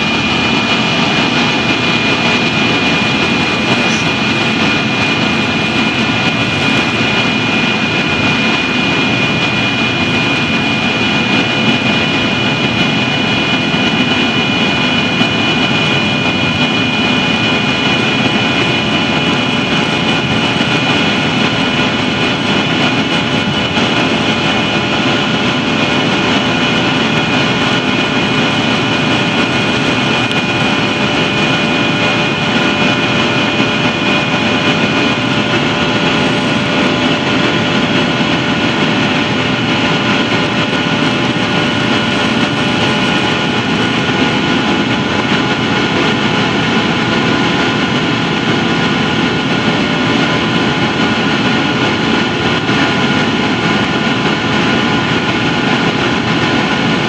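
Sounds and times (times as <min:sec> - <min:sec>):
jet engines roaring with high whine: 0:00.0 - 0:57.0.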